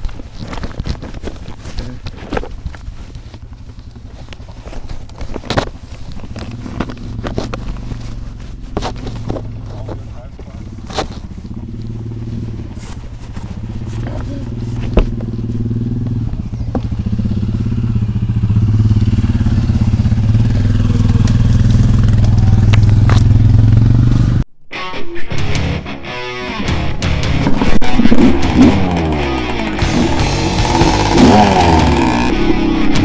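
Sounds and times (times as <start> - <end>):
dirt bike engine running: 0.2 - 24.4, 26.7 - 33.0.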